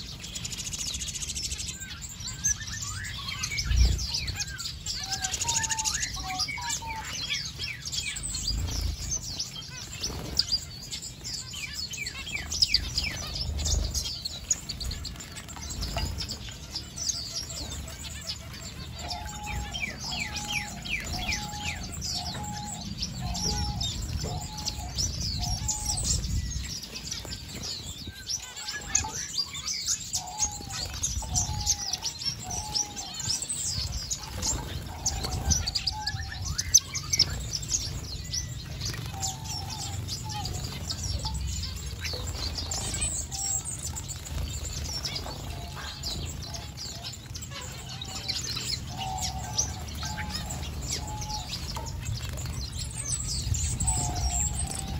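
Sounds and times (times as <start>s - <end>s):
finches chirping and twittering: 0.0s - 54.9s.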